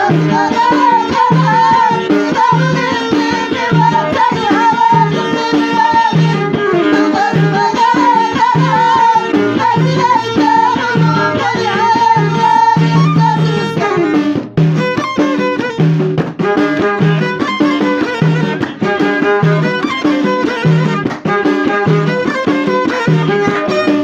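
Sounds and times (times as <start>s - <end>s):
hand drum beat: 0.0s - 24.0s
wavering folk melody: 0.0s - 24.0s.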